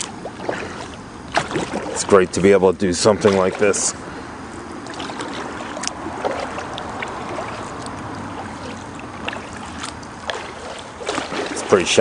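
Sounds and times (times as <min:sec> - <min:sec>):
paddle drips and splashes: 0:00.0 - 0:02.3, 0:03.2 - 0:12.0
water swishing: 0:00.0 - 0:12.0.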